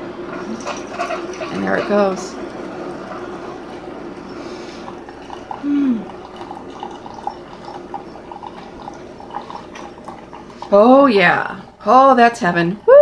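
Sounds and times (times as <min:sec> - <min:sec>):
coffee brewer pump running: 0:00.0 - 0:13.0
coffee pouring into mug: 0:00.2 - 0:11.6.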